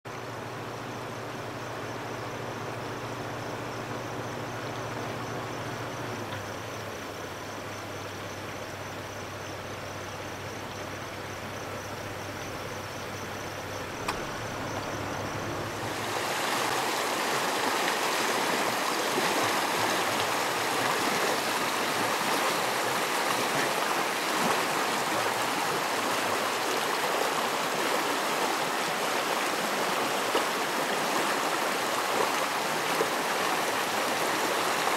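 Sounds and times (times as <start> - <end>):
creek running over rocks: 0.1 - 34.9.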